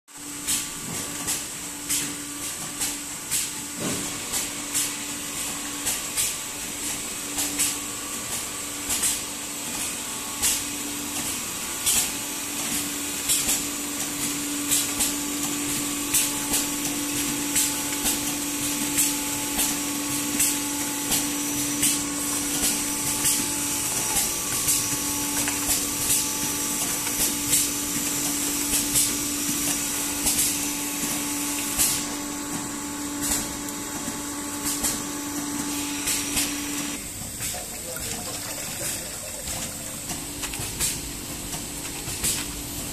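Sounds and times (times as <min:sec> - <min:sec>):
packing machines humming: 0:00.2 - 0:42.9.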